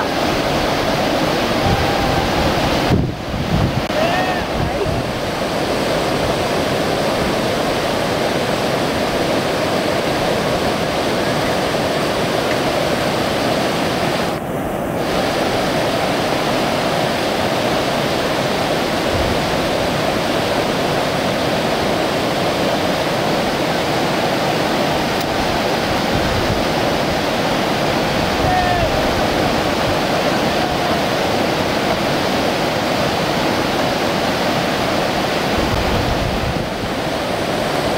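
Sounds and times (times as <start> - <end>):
river rapids rushing: 0.0 - 37.9.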